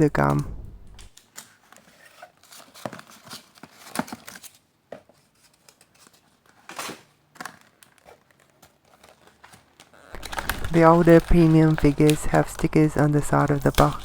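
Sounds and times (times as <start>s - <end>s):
packaging rustling and tearing: 1.0s - 14.0s.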